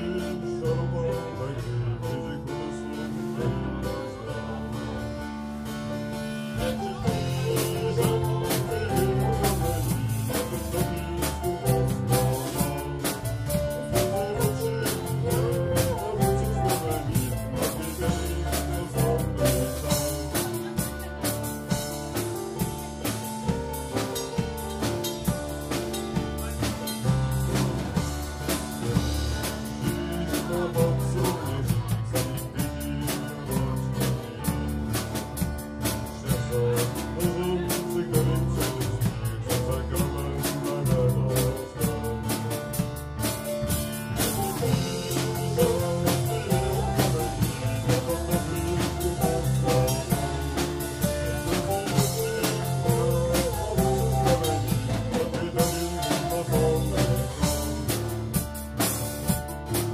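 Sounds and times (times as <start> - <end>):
acoustic guitar: 0.0 - 59.9
live folk band playing: 0.0 - 59.9
drum kit beat: 4.1 - 59.9.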